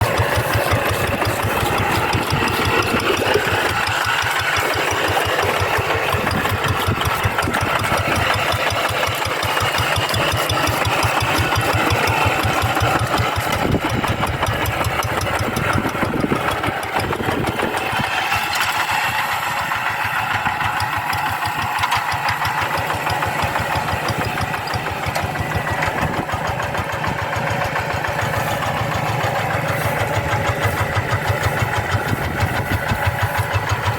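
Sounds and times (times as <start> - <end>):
tractor diesel engine chugging: 0.0 - 33.9.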